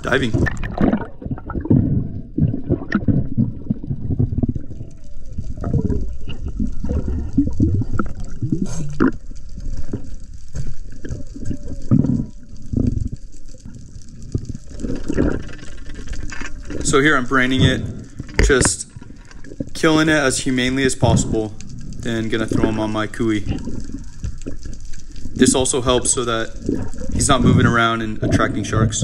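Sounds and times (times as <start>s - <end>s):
water sloshing and gurgling: 0.0s - 29.0s.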